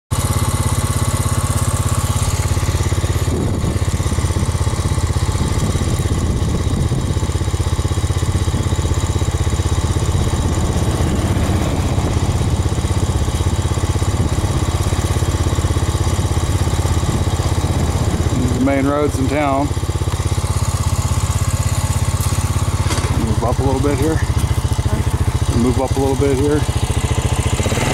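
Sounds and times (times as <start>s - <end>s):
small engine running: 0.1s - 27.9s.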